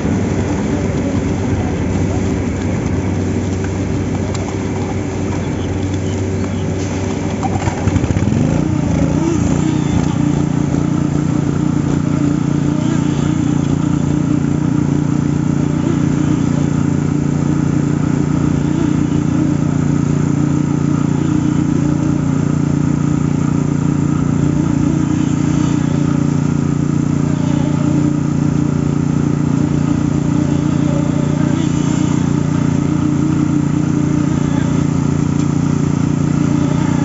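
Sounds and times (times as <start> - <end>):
concrete pump running: 0.0 - 37.0
concrete vibrator drone: 0.0 - 37.0.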